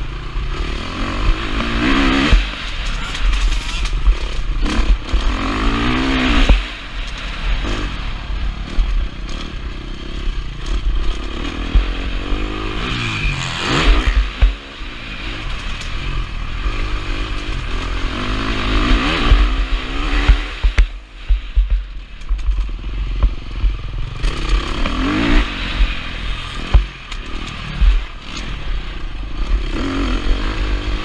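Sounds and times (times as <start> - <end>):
motorcycle engine revving: 0.0 - 31.0
wind rumble on camera: 0.0 - 31.0.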